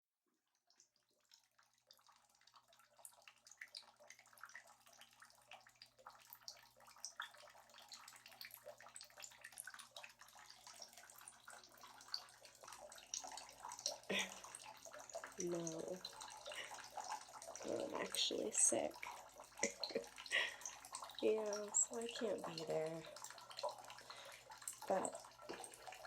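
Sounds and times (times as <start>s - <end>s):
bath water splashing: 1.9s - 26.0s.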